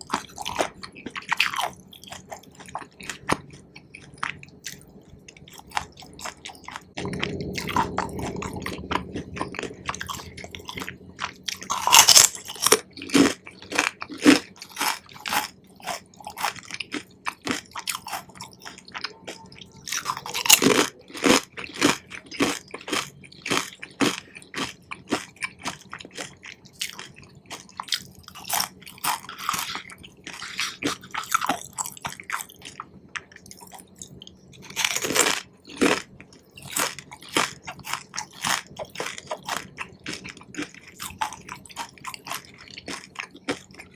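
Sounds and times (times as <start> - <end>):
close chewing mouth sounds: 0.0 - 43.9.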